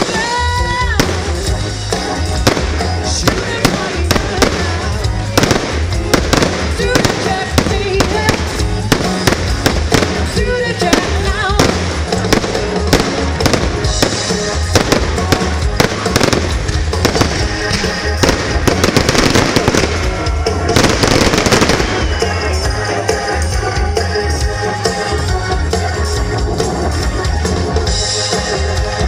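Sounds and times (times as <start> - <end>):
fireworks crackling and banging: 0.0 - 25.2
live band playing: 0.0 - 29.0.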